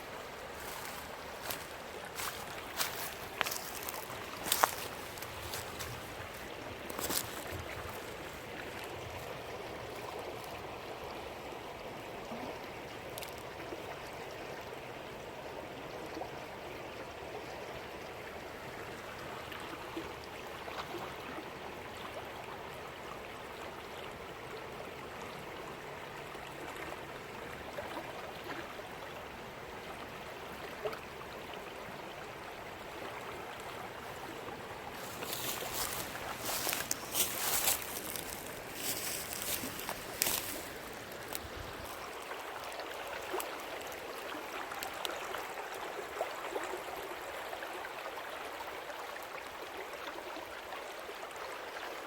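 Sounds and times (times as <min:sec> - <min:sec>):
rushing river water: 0:00.0 - 0:52.0.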